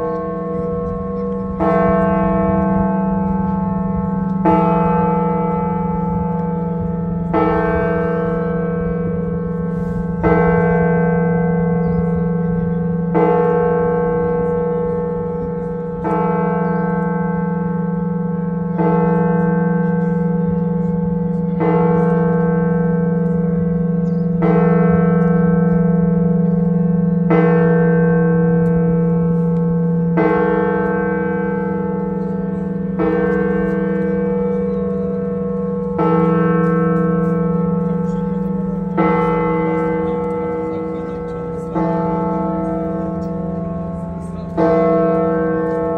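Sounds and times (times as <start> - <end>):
large church bell strokes: 0.0 - 45.9.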